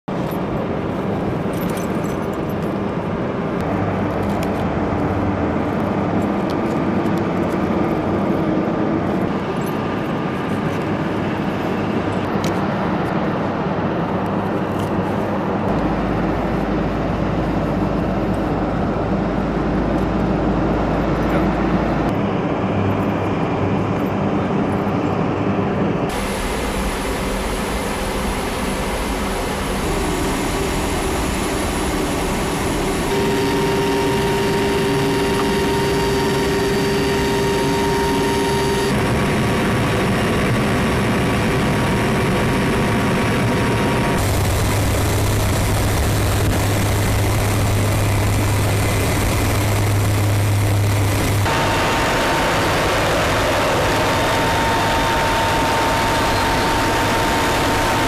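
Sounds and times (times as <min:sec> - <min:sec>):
aircraft engines droning: 0:00.1 - 0:58.0.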